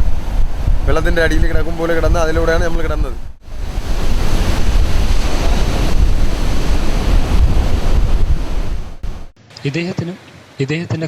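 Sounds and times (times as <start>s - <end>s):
wind buffeting microphone: 0.0s - 9.4s
sea surf breaking: 0.0s - 10.5s.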